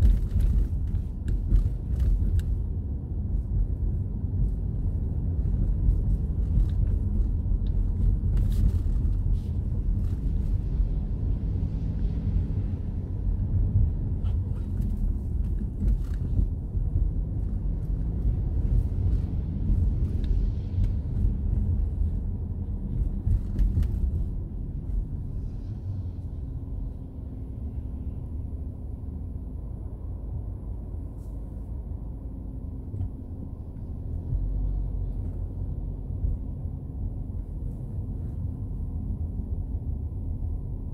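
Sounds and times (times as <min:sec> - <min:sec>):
engine and tyre rumble: 0:00.0 - 0:40.9.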